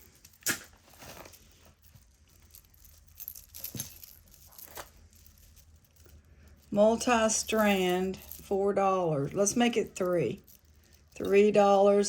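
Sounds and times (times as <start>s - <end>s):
beads and metal rattling: 0.0s - 12.0s.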